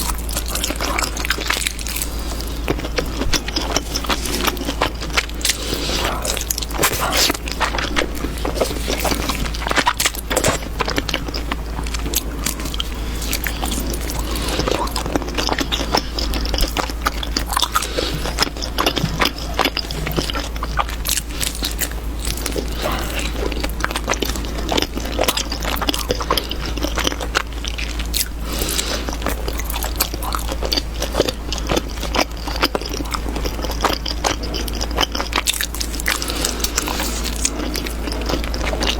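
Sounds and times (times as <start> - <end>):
person chewing soft food: 0.0 - 38.9.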